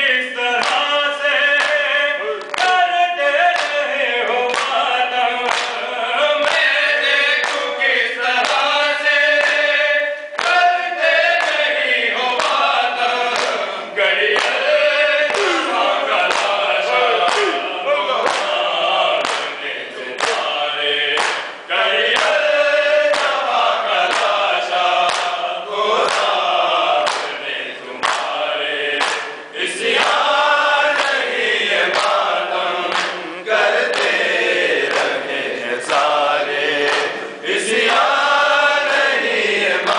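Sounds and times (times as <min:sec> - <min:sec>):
men chanting in unison: 0:00.0 - 0:39.9
reciter leading chant: 0:00.0 - 0:39.9.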